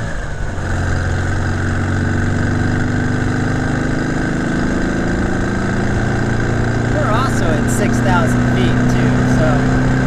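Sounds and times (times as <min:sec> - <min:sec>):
car engine pulling under load: 0:00.0 - 0:10.0.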